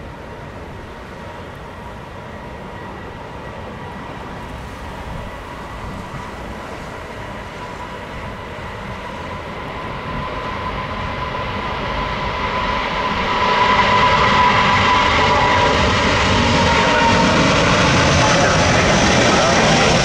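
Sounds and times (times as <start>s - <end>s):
jet engines at takeoff thrust: 0.0s - 20.0s
steady engine whine: 0.0s - 20.0s.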